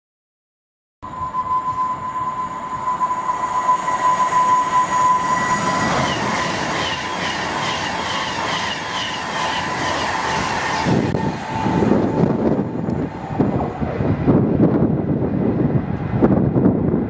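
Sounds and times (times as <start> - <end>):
rhythmic repeating train sound: 1.0 - 14.9
train carriages rushing past: 1.0 - 16.8
train high whine: 1.0 - 17.0.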